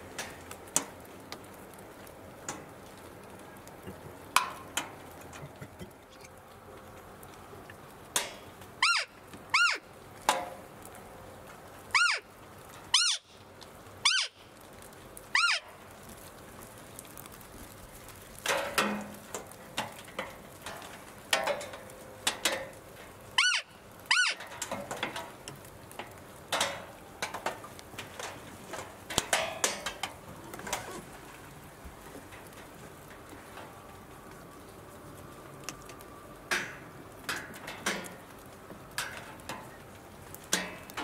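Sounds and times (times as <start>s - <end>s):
raindrops tapping: 0.0s - 41.0s.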